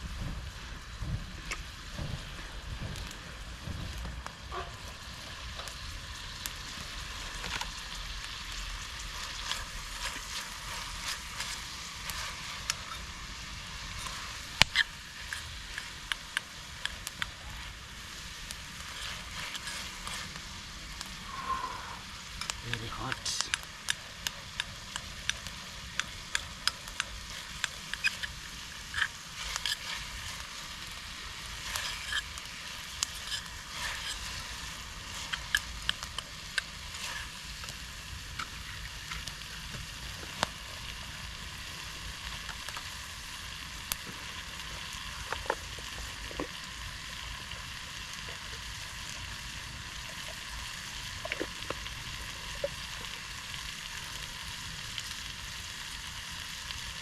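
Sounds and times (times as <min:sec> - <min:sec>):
food sizzling in a pan: 0:00.0 - 0:57.0
oil popping and crackling: 0:00.0 - 0:57.0.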